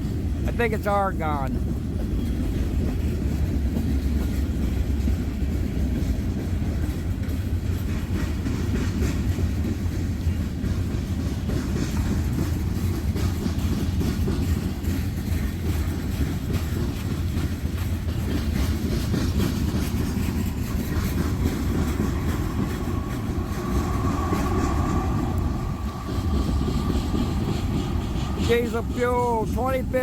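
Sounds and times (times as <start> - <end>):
train wheels rumbling on rail: 0.0 - 30.0
clicking over rail joints: 1.5 - 30.0.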